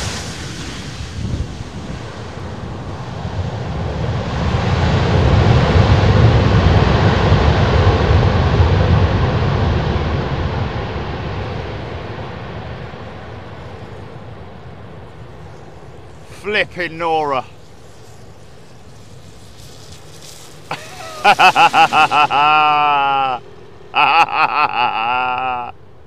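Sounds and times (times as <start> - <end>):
jet engines in reverse thrust: 0.0 - 24.8.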